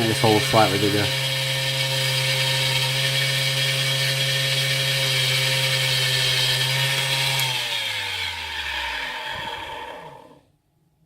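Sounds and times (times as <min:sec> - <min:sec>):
electric drill running: 0:00.0 - 0:10.4.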